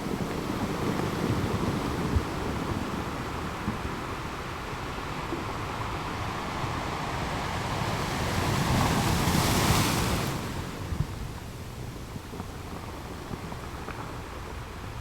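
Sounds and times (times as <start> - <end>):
ocean surf rumble: 0.0 - 15.0.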